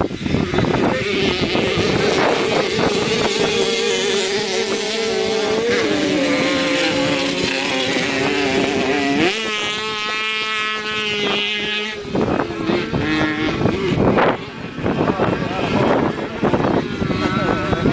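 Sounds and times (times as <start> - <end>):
moped engines racing: 0.0 - 17.9.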